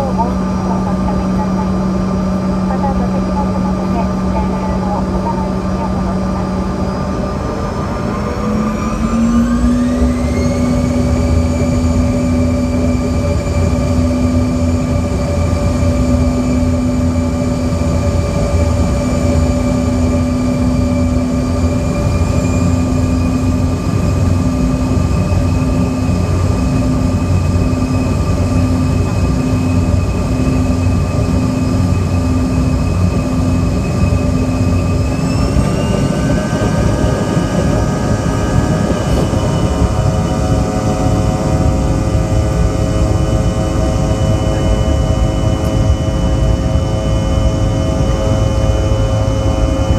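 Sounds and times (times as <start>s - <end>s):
jet engines whining: 0.0s - 49.9s
low rumble: 0.0s - 49.9s.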